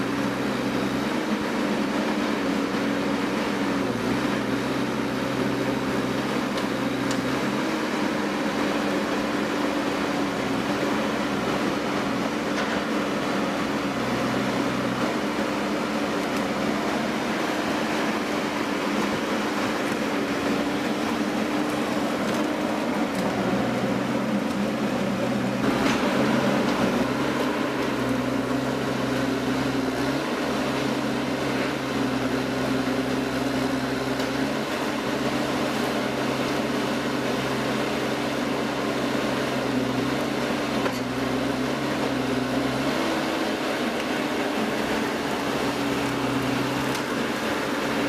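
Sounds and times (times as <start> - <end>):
machine motor humming: 0.2 - 48.0.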